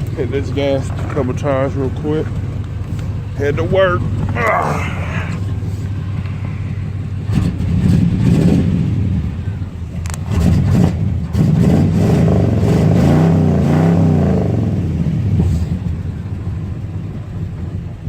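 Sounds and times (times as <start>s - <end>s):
car engine revving: 0.0s - 16.5s.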